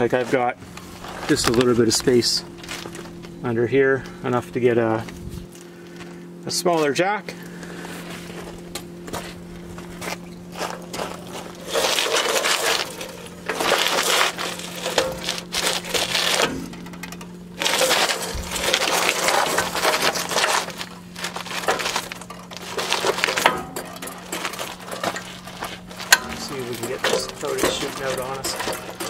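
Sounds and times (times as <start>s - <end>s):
scraping crackling work noise: 0.0s - 29.0s
steady low hum: 0.0s - 29.0s.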